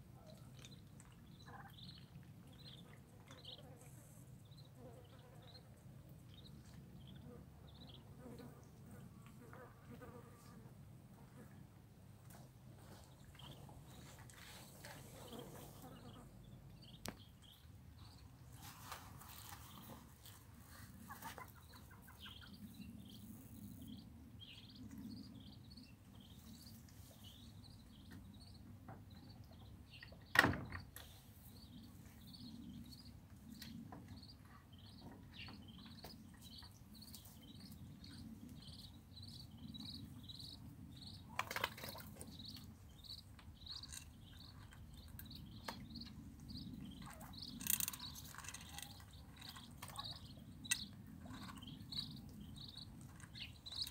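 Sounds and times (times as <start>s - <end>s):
ducklings peeping: 0.2s - 9.0s, 12.8s - 30.2s, 31.5s - 53.9s.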